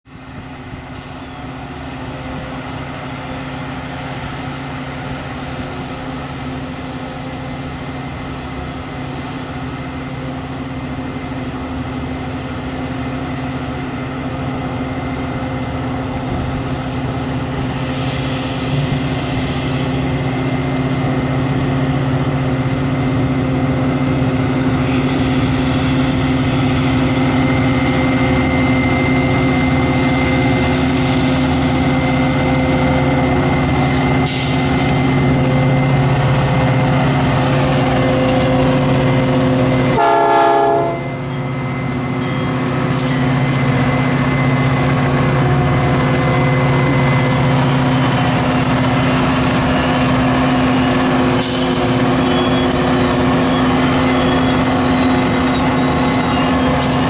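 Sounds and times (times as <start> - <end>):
rail and wheel noise: 0.1 - 57.0
locomotive diesel drone: 7.3 - 57.0.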